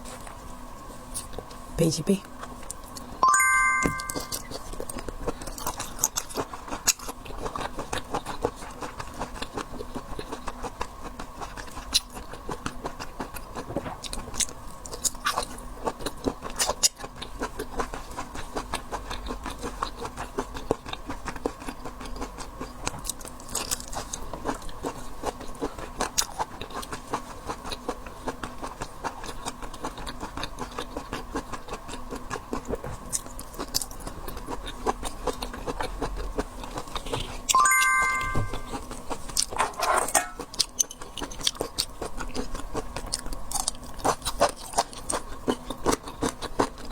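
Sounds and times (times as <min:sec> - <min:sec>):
chewing and biting seafood: 0:04.6 - 0:37.5, 0:40.3 - 0:46.9.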